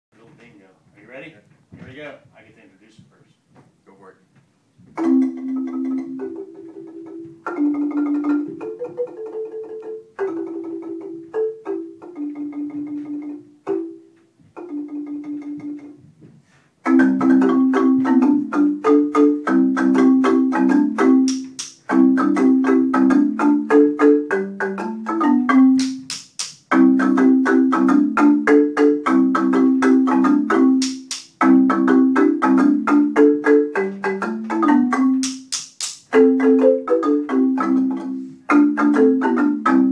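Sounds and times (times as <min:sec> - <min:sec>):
marimba duet played with mallets: 0:05.0 - 0:16.0, 0:16.8 - 0:39.9.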